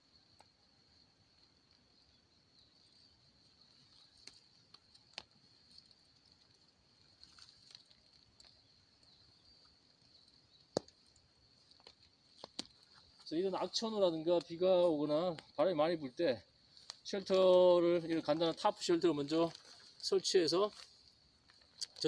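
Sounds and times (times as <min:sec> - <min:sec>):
faint high hiss: 0:00.0 - 0:22.0.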